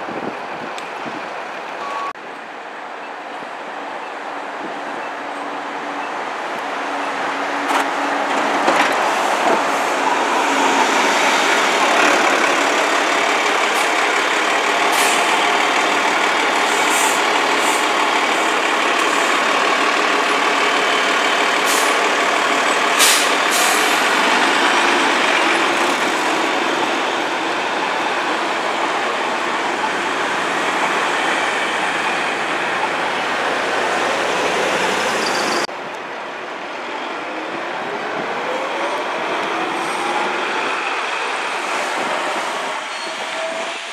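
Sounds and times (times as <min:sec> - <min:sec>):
buses in street traffic: 0:00.0 - 0:43.9.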